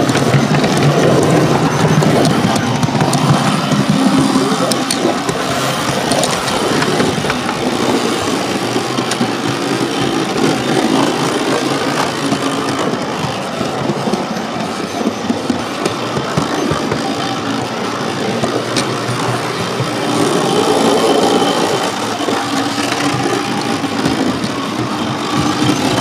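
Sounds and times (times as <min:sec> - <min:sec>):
model train rumbling: 0:00.0 - 0:26.0
wheels clicking over rail joints: 0:00.0 - 0:26.0.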